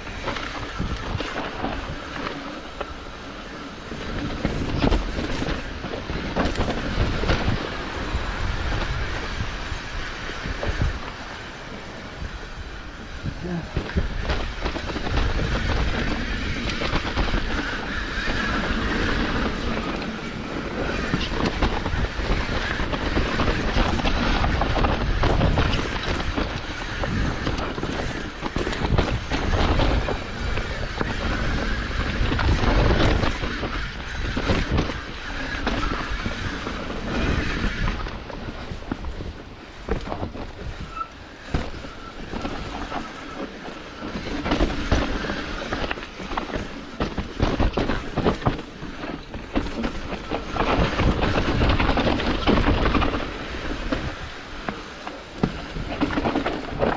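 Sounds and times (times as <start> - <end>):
bike tyres on dirt and rock: 0.0 - 56.9
wind rumbling on microphone: 0.0 - 56.9.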